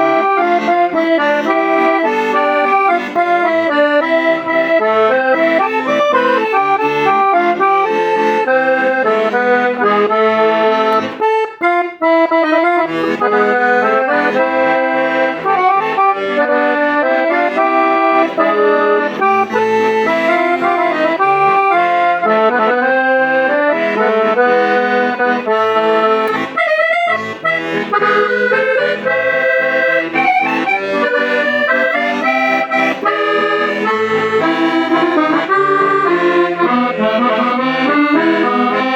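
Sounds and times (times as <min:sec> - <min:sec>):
accordion melody over chords: 0:00.0 - 0:38.9.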